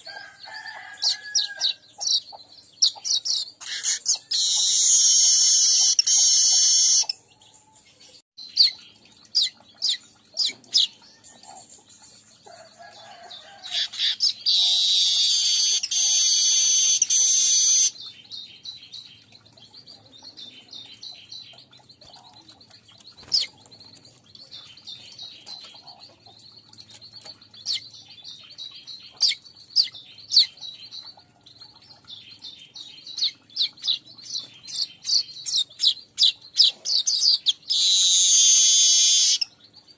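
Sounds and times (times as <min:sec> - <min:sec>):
harsh buzzy bird song: 0:00.0 - 0:39.9
weaver birds chirping: 0:00.0 - 0:39.9.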